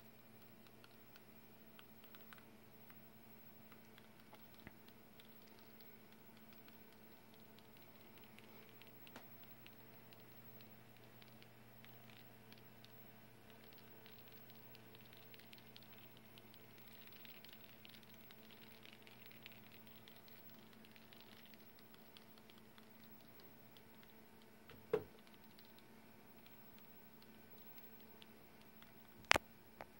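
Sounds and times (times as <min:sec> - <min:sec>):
faint steady hum: 0:00.0 - 0:29.9
faint ticks: 0:00.4 - 0:24.5.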